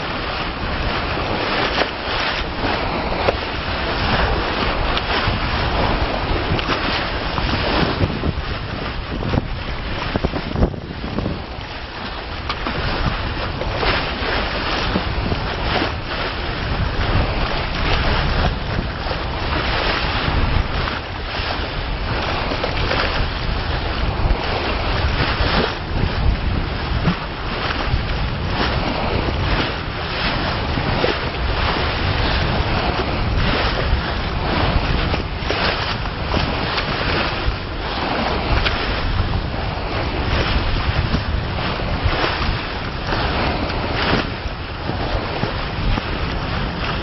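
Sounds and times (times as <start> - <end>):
water splashing along boat bow: 0.0 - 47.0
wind buffeting microphone: 0.0 - 47.0.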